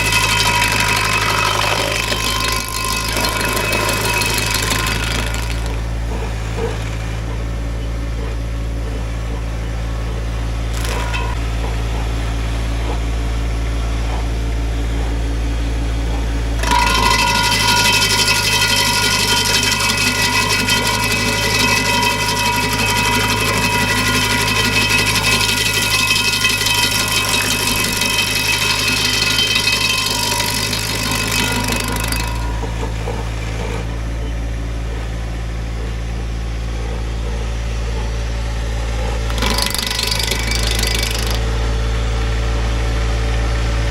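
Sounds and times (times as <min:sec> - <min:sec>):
stump grinder whining and grinding: 0:00.0 - 0:43.9
tractor engine running: 0:00.0 - 0:43.9.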